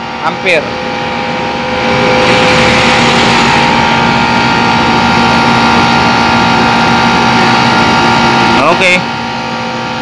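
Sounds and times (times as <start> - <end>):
air conditioner whirring hum: 0.0 - 10.0.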